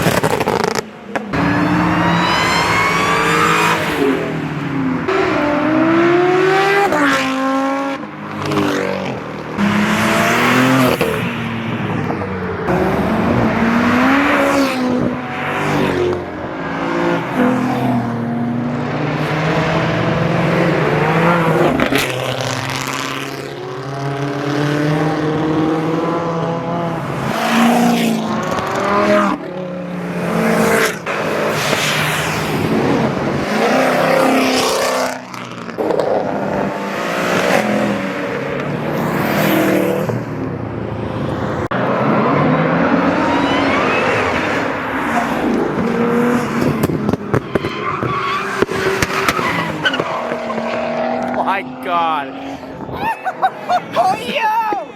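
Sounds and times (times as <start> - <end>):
car engines revving past: 0.0 - 53.9.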